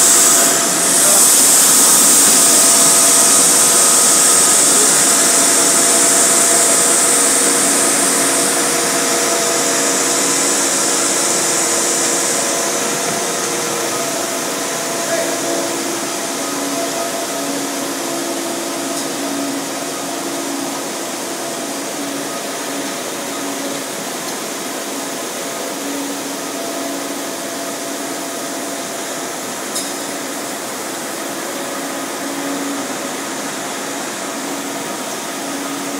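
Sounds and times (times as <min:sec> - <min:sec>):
hiss: 0:00.0 - 0:35.9.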